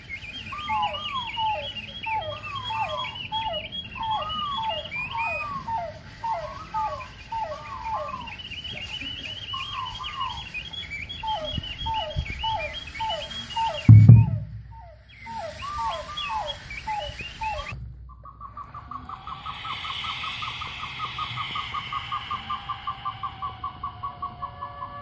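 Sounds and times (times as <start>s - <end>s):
person whistling bird calls: 0.0s - 25.0s.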